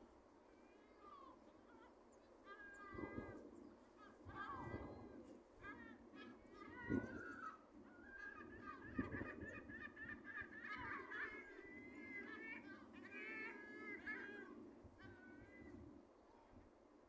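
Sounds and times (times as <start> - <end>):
faint low background noise: 0.0 - 17.0
birds calling harshly: 0.6 - 15.8.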